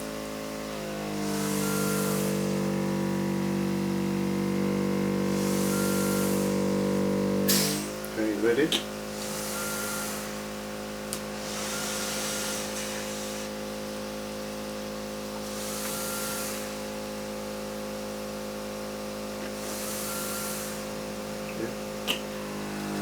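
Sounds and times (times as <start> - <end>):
machine blower humming: 0.0 - 23.0.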